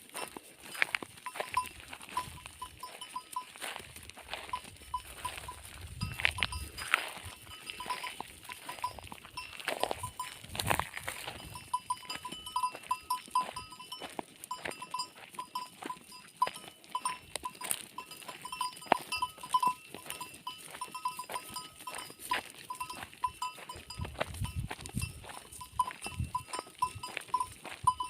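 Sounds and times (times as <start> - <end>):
goat bells clinking: 0.0 - 28.0.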